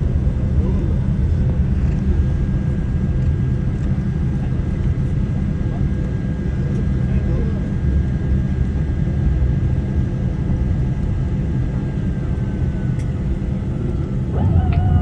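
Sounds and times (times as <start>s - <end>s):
airliner engines rumbling: 0.0s - 15.0s.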